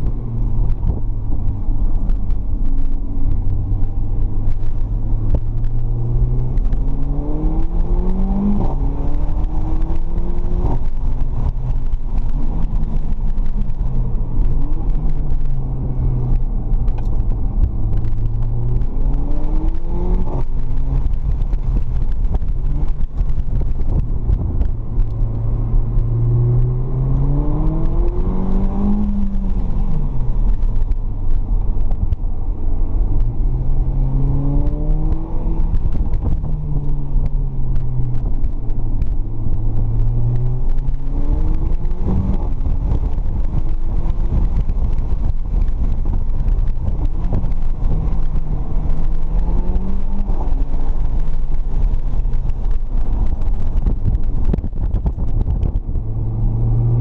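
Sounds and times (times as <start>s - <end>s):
car engine revving: 0.0s - 57.0s
road and wind noise: 0.0s - 57.0s.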